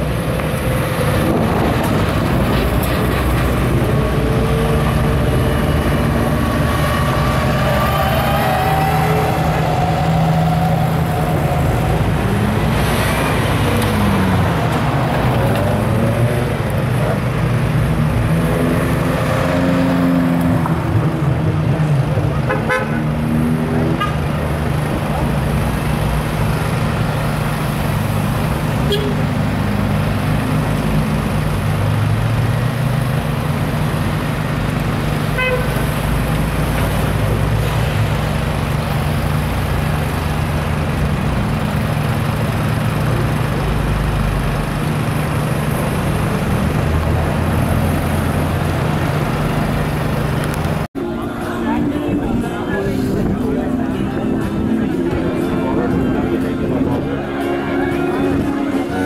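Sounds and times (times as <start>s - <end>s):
cars driving slowly past: 0.0s - 59.0s.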